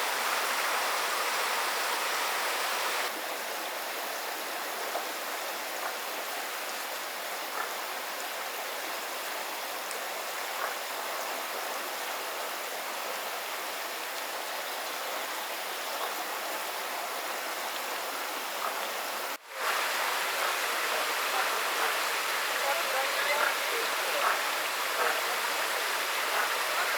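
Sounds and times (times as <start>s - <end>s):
water rushing along channel: 0.0s - 26.9s.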